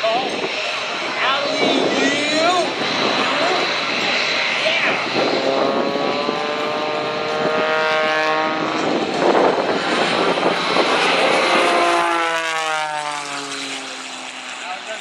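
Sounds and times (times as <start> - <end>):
propeller plane engine passing: 0.0 - 15.0.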